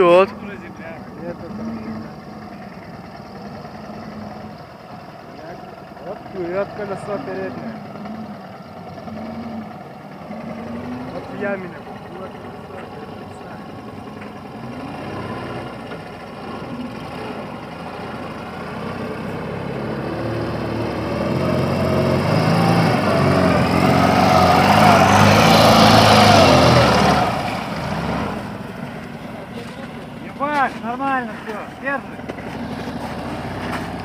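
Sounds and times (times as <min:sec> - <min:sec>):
vehicle engine revving under load: 0:00.0 - 0:34.0.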